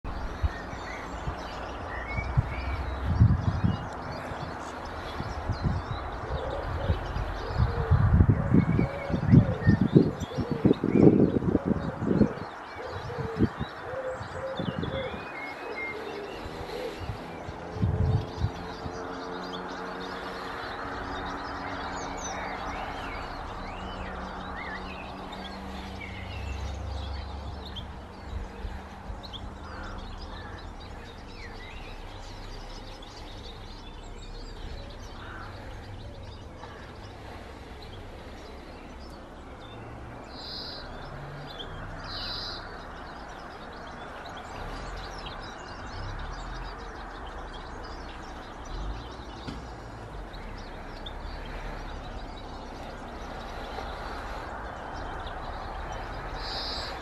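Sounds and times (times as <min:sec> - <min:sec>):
garden birds chirping: 0:00.0 - 0:57.0.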